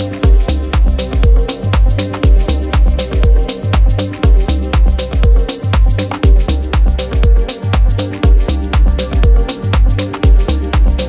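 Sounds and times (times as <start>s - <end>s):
deep bass: 0.0s - 11.0s
electronic dance music: 0.0s - 11.0s
hi-hats: 0.0s - 11.0s
kick drum: 0.0s - 11.0s.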